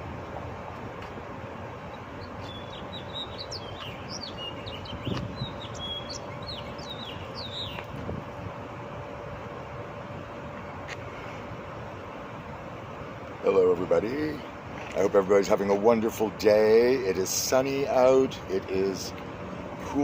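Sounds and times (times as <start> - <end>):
steady background hiss: 0.0 - 20.0
songbirds chirping: 0.2 - 20.0.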